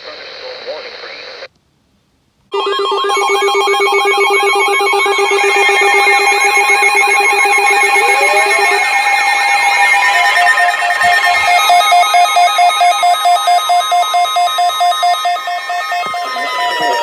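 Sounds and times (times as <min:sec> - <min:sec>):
ringing warble alarm: 0:02.5 - 0:17.0
steady electronic tones: 0:02.5 - 0:17.0.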